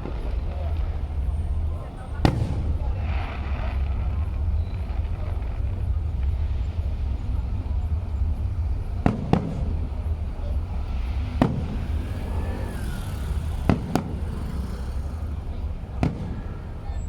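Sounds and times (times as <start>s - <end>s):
fireworks bangs: 0.0s - 17.0s
low rumble: 0.0s - 17.0s.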